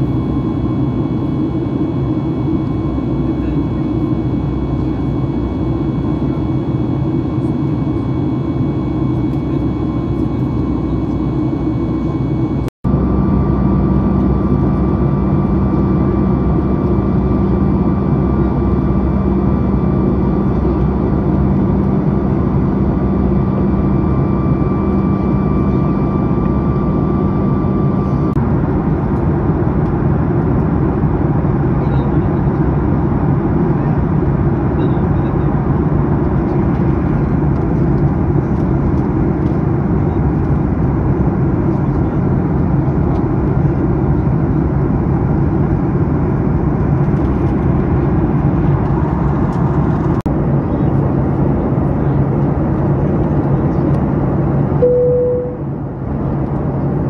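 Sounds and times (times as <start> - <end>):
steady humming tones: 0.0 - 29.6, 33.8 - 57.0
airplane cabin engine rush: 0.0 - 57.0.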